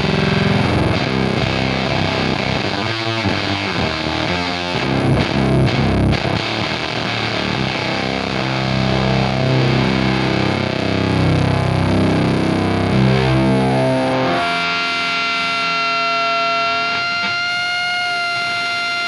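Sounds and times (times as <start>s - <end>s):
distorted fuzz electric guitar: 0.0s - 19.0s.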